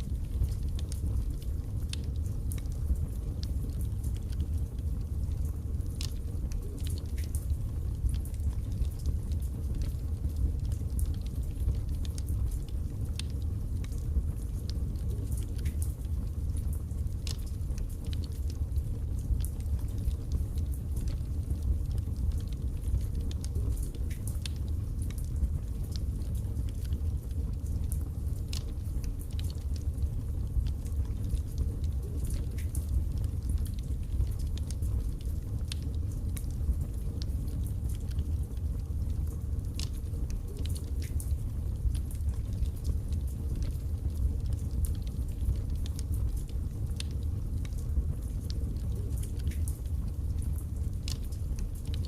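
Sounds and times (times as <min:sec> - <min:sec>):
fire crackles and pops: 0:00.0 - 0:52.0
fire rumbling: 0:00.0 - 0:52.0.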